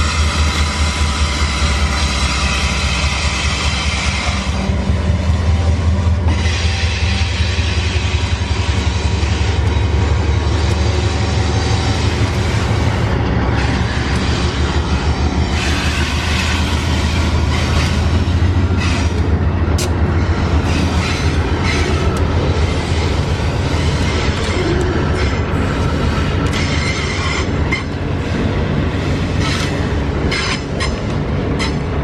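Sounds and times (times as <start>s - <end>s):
train rattling: 0.0s - 32.0s
train rumbling on rails: 0.0s - 32.0s.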